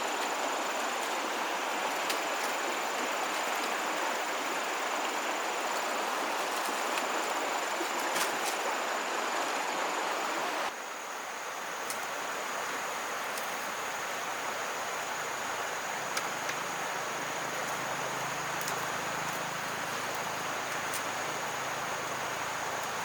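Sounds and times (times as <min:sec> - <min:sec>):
background hiss: 0:00.0 - 0:23.0
high insect-like tone: 0:00.0 - 0:23.0.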